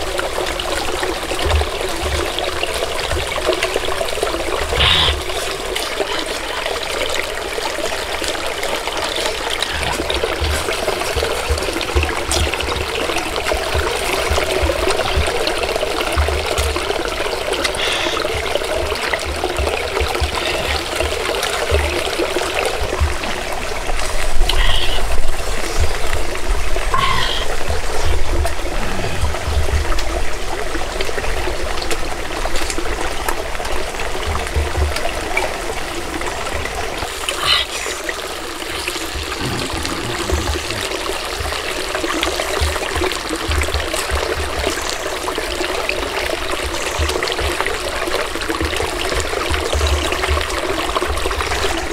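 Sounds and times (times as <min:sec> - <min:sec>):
stream trickling over rocks: 0:00.0 - 0:51.9.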